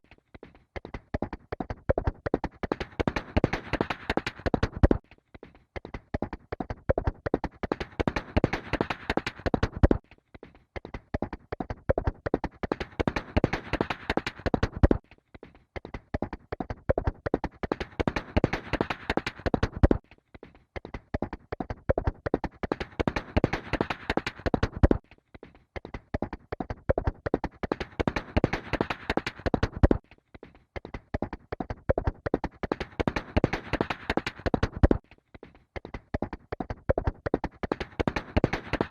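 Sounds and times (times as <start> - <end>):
horse hooves galloping: 0.0 - 5.0, 5.8 - 10.0, 10.8 - 15.0, 15.8 - 20.0, 20.8 - 25.0, 25.8 - 30.0, 30.8 - 35.1, 35.8 - 38.9.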